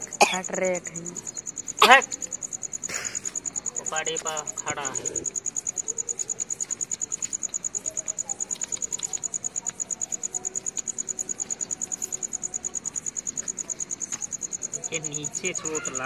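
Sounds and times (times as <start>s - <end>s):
cricket chirring: 0.0s - 16.0s.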